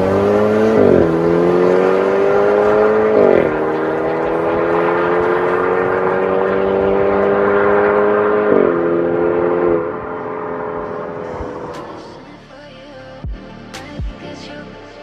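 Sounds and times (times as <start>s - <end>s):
car engine accelerating: 0.0s - 12.6s.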